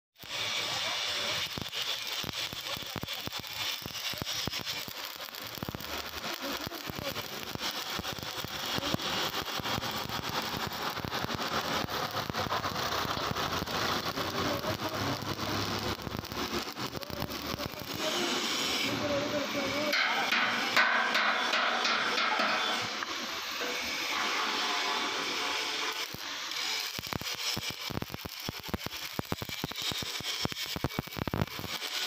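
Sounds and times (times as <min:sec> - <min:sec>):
arc welding crackling: 0:00.2 - 0:32.0.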